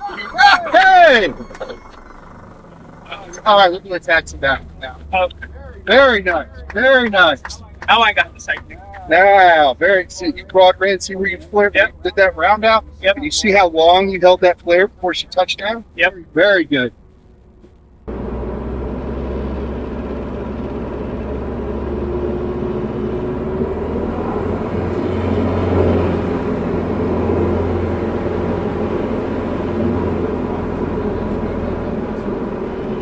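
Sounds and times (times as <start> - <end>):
aircraft engine and propeller drone: 0.0 - 16.3, 17.0 - 33.0.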